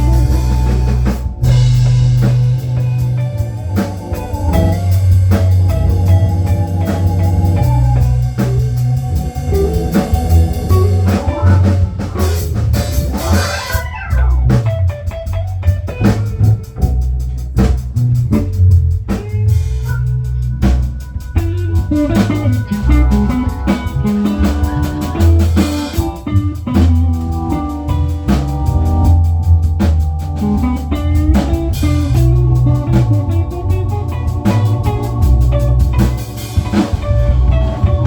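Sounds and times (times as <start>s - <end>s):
bass guitar: 0.0s - 38.0s
drum kit beat: 0.0s - 38.0s
guitar with bent notes: 0.0s - 38.0s.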